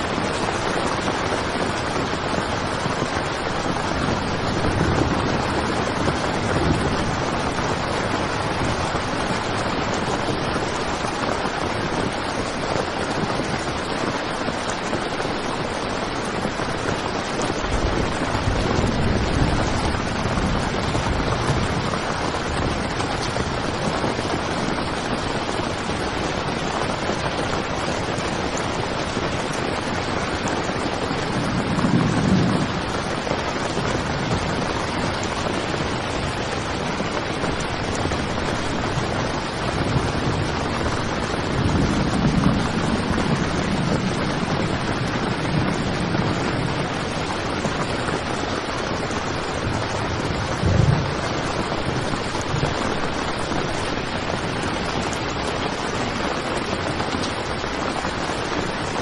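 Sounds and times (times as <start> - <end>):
heavy rain on tent fabric: 0.0 - 59.0.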